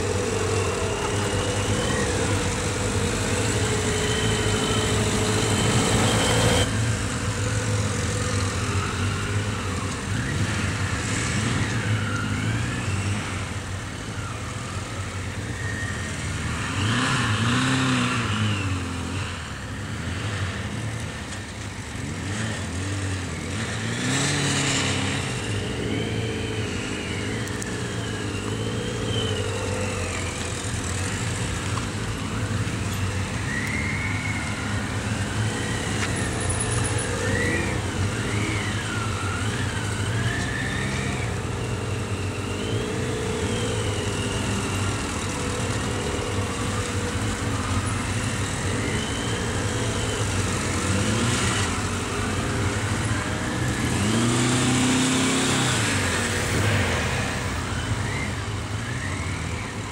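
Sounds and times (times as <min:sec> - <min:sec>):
motorcycle engines at low revs: 0:00.0 - 0:59.9.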